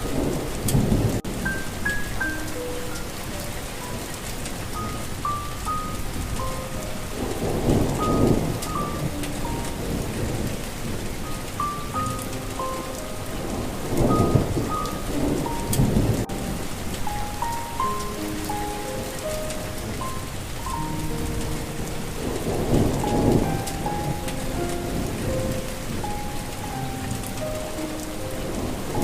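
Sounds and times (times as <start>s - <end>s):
slow soft melody: 0.0s - 29.0s
steady rain: 0.0s - 29.0s
thunder rumbling: 0.0s - 29.0s.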